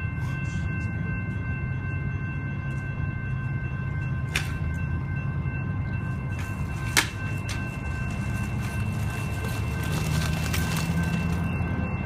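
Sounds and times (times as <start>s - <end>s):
thin high ringing tones: 0.0s - 12.0s
train wheels rumbling on rail: 0.0s - 12.0s.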